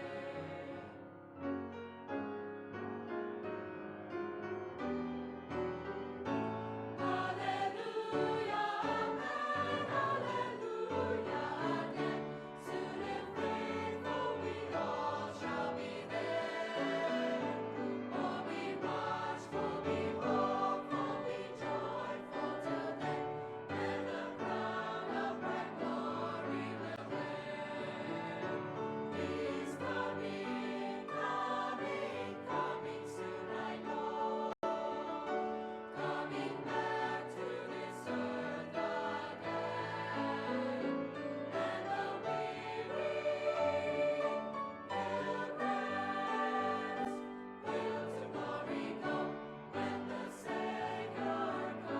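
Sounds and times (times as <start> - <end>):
choir singing sacred harmonies: 0.0 - 1.3, 5.0 - 51.9.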